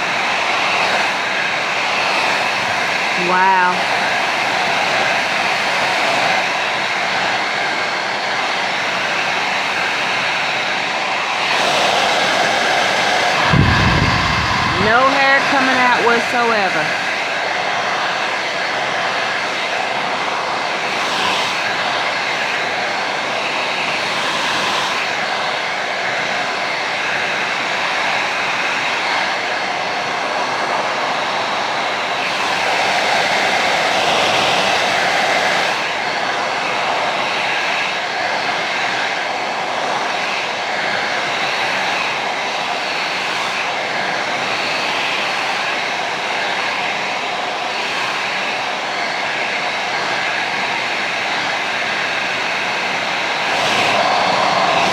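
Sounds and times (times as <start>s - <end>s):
hair dryer blowing air: 0.0s - 54.9s
hair dryer motor whine: 0.0s - 54.9s.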